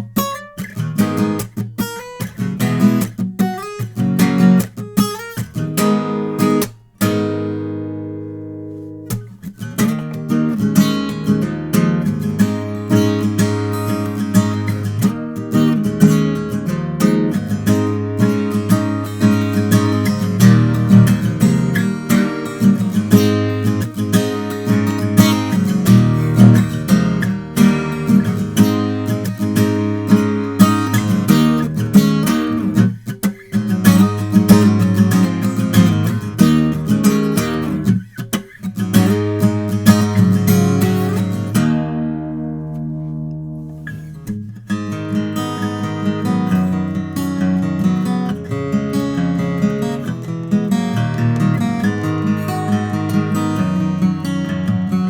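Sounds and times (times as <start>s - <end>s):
acoustic guitar strummed and picked: 0.0s - 55.0s.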